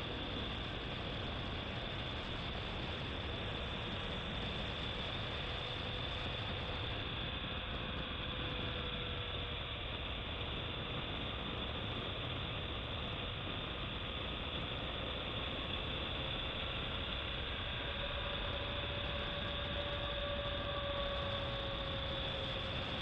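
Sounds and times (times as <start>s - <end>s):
motorcycle engine cruising: 0.0s - 23.0s
wind noise on microphone: 0.0s - 23.0s.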